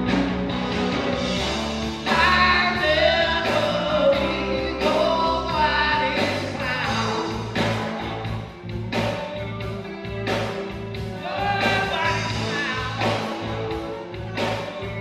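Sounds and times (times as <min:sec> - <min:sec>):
reggae band music: 0:00.0 - 0:15.0.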